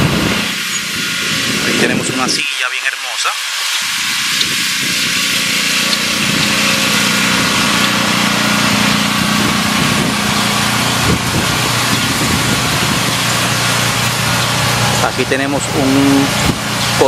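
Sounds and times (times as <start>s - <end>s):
small engine running: 0.0s - 2.3s, 3.6s - 17.0s.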